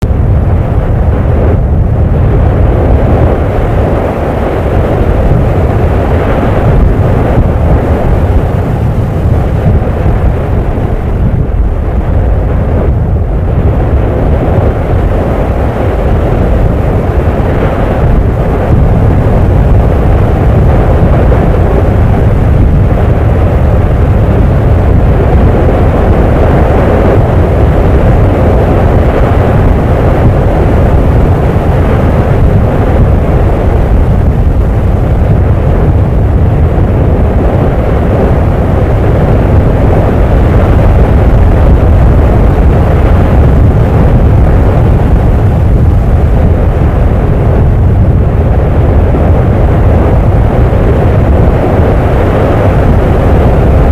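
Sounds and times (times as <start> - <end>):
volcanic eruption rumbling: 0.0 - 53.9.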